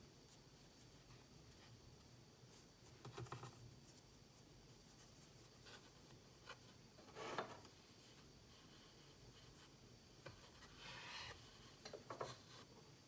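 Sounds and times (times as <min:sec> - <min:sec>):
soft scratching and rustling: 0:00.2 - 0:12.8.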